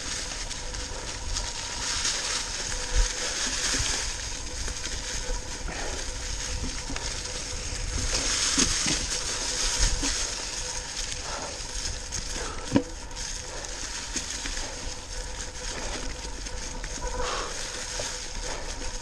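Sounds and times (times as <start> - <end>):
bike clicks and rattles: 0.0 - 19.0
bike tyres crunching leaves: 0.0 - 19.0.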